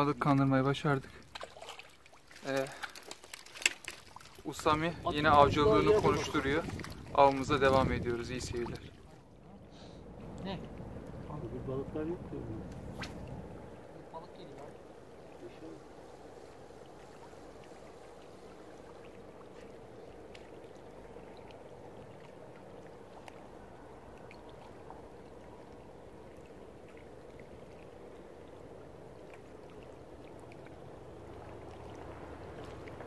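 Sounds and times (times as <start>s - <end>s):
small waves lapping on stones: 0.0s - 9.4s, 14.2s - 33.0s.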